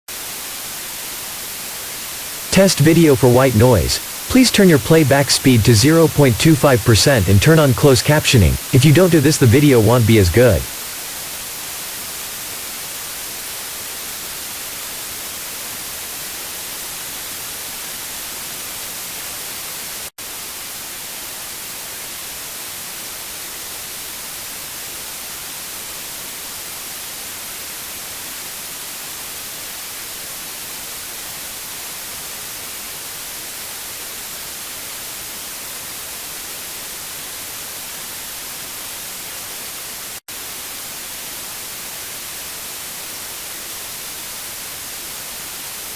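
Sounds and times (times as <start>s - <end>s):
white noise hiss: 0.1s - 45.9s.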